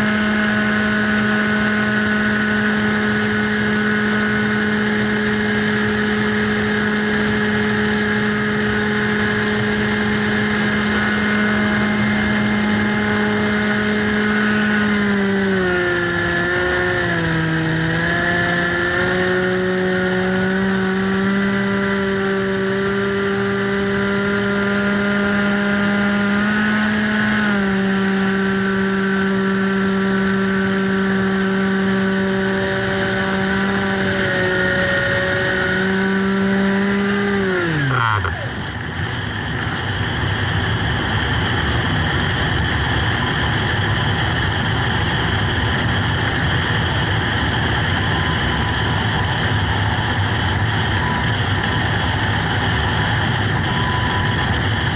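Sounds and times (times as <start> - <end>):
rc plane motor and propeller drone: 0.0 - 54.9.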